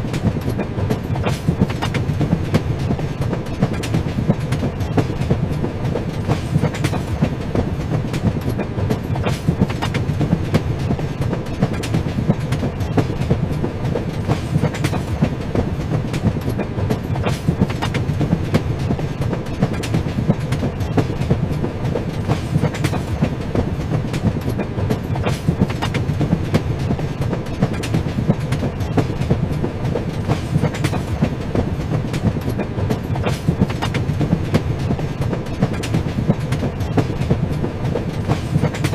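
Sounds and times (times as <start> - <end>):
train rumbling on track: 0.0 - 38.9
wheels clicking over rails: 0.0 - 38.9.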